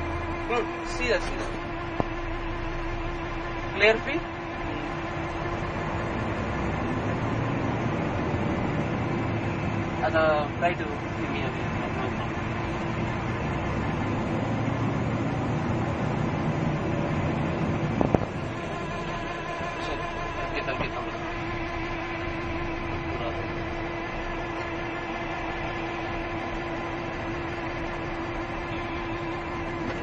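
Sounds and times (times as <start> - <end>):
steady hum: 0.0 - 30.0
truck engine and road noise: 0.0 - 30.0.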